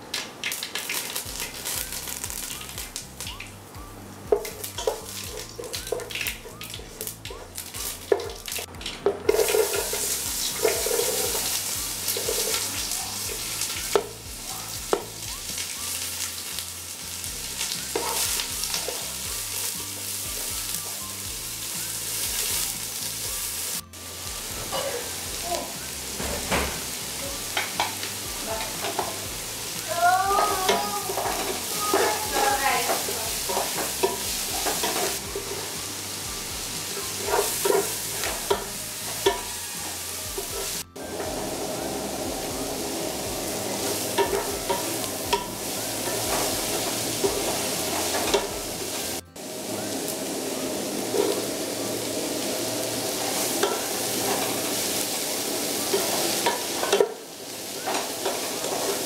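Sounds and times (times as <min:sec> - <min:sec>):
shallots sizzling in hot oil: 0:00.0 - 0:59.0.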